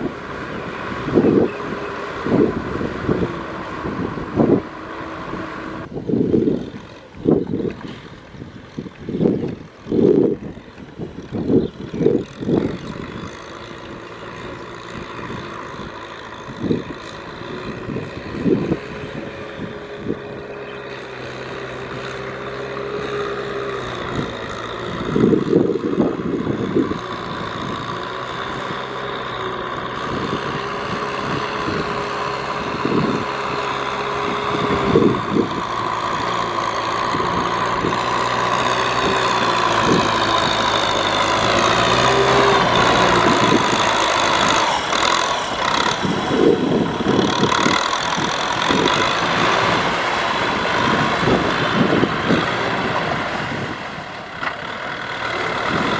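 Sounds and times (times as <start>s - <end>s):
tractor engine working: 0.0s - 55.9s.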